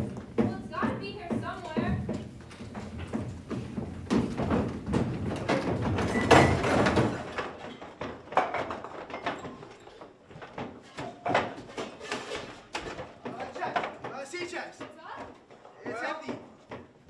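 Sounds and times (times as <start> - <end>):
footsteps on wooden stage: 0.0 - 17.0
stage props knocking and scraping: 0.0 - 17.0.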